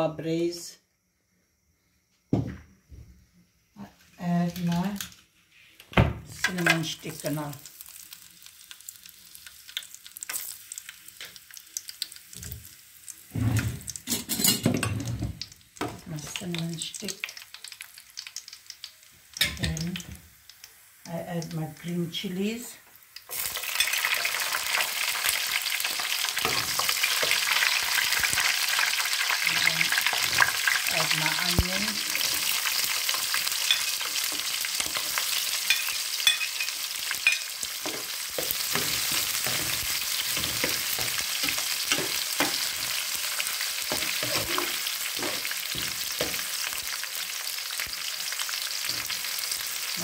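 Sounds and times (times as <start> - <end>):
vegetables sizzling in hot oil: 6.0 - 50.0.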